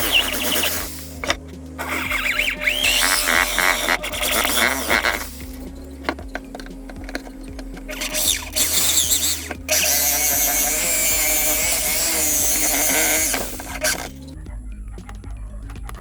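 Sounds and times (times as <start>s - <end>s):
power tool motor whining: 0.0s - 14.4s.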